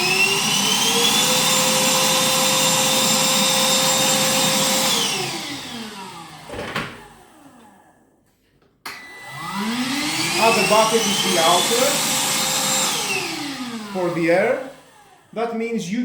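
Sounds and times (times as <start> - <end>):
vacuum cleaner motor whine: 0.0 - 8.1, 8.9 - 15.8.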